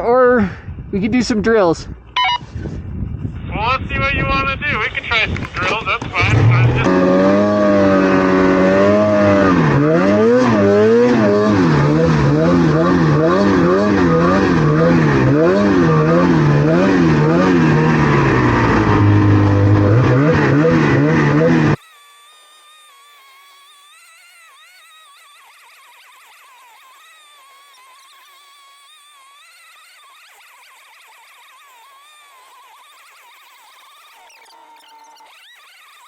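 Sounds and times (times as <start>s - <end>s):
snowmobile engine revving: 3.6s - 36.0s.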